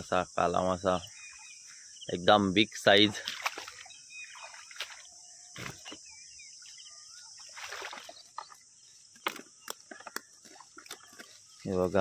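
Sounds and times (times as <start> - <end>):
high insect drone: 0.0 - 12.0
small birds chirping: 0.0 - 12.0.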